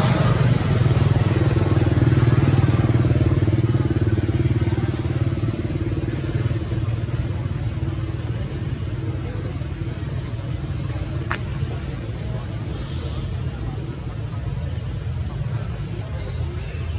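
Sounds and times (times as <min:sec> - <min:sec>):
engine pulsing hum: 0:00.0 - 0:16.9.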